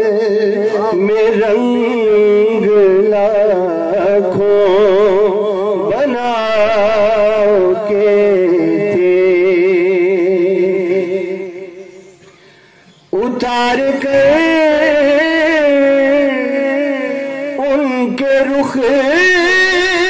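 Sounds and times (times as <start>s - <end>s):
man singing into a microphone: 0.0s - 12.2s, 13.1s - 20.0s.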